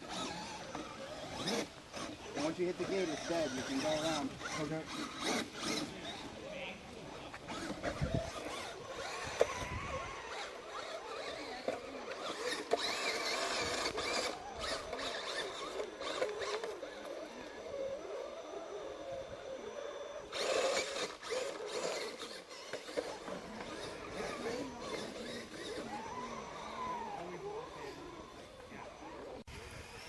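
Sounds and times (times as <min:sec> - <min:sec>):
electric motor and gears whirring: 0:00.0 - 0:30.0.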